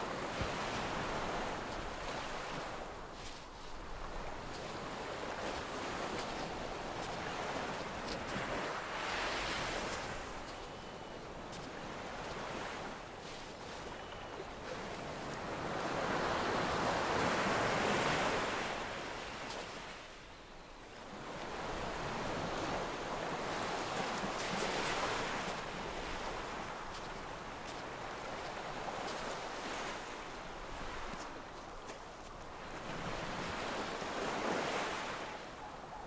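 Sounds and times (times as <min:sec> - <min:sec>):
waves washing on beach: 0:00.0 - 0:20.2, 0:21.0 - 0:35.7.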